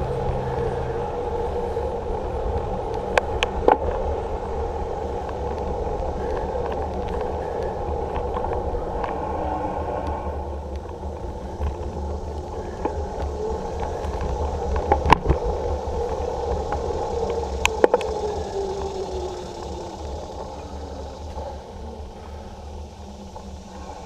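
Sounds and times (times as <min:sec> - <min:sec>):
bicycle clacking over bumps: 0:00.0 - 0:24.0
bicycle tyre and drivetrain whir: 0:00.0 - 0:24.0
low rumble: 0:00.0 - 0:24.0.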